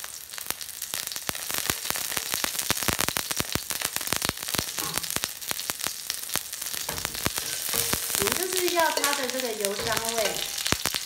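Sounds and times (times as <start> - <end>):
hot oil sizzling in a wok: 0.0 - 11.0.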